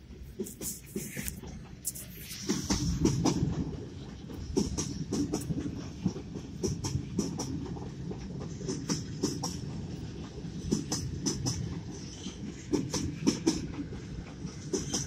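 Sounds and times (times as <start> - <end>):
freight train rumble: 0.0 - 15.0
train wheels clacking: 0.0 - 15.0.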